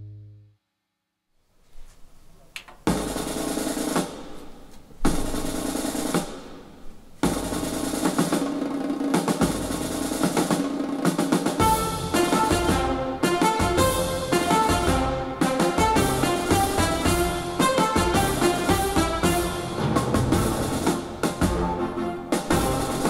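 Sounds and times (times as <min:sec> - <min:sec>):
drum-led music over loudspeakers: 0:02.8 - 0:23.0.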